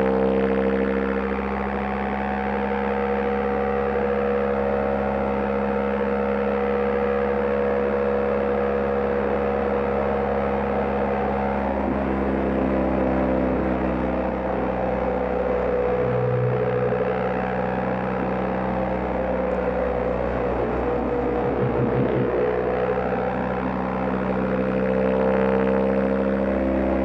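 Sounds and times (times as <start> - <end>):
motorcycle engine drone: 0.0 - 27.0.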